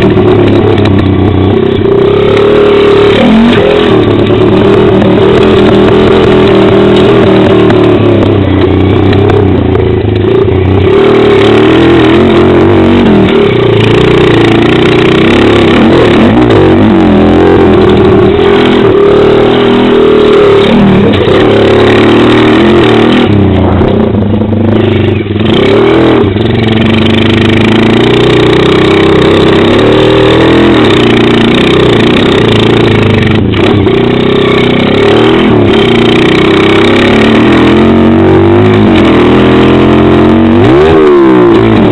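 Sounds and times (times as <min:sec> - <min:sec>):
small motorbike engine revving: 0:00.0 - 0:41.9.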